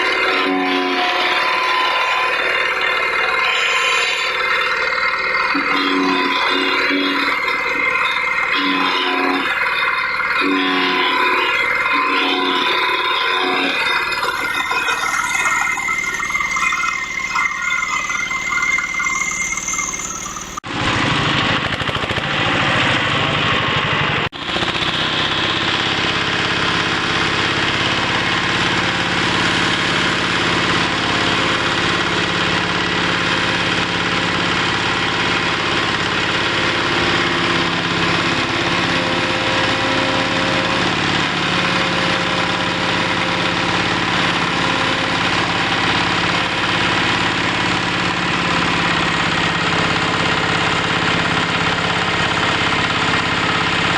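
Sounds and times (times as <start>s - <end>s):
wood chipper engine running: 0.0s - 53.9s.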